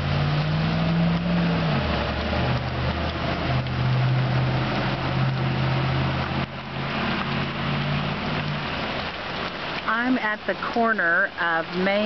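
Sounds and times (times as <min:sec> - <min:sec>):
vehicle engine humming: 0:00.0 - 0:10.1
heavy rain: 0:00.0 - 0:12.0
water on flooded street: 0:00.0 - 0:12.0.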